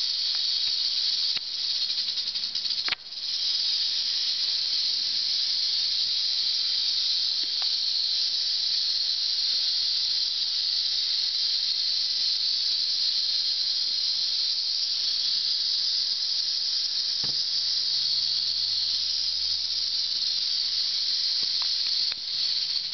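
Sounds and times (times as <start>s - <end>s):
rattlesnake rattling: 0.0s - 22.9s.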